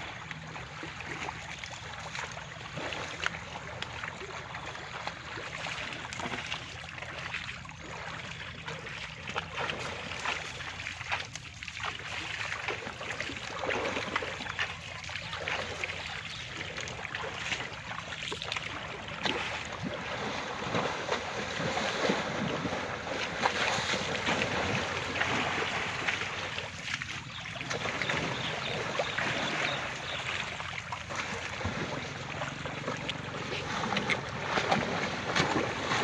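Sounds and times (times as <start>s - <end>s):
water sloshing and splashing: 0.0s - 36.0s.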